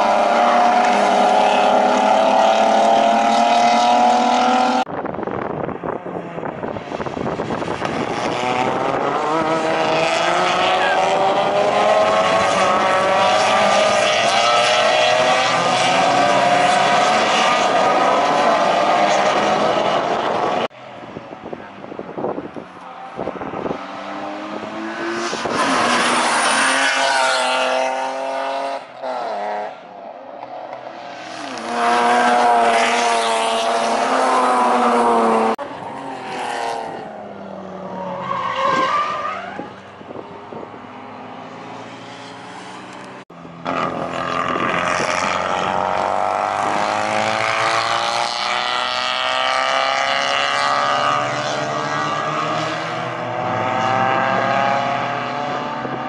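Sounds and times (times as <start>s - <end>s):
racing cars revving past: 0.0s - 4.9s, 6.8s - 20.7s, 23.0s - 56.0s.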